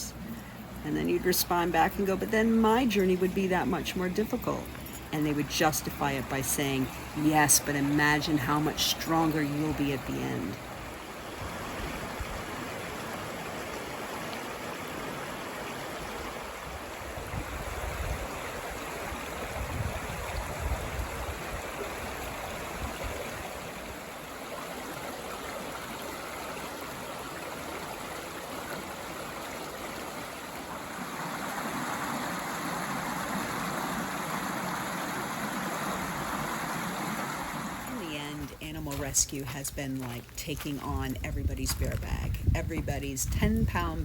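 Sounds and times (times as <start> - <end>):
brook water over rocks: 0.0 - 41.9.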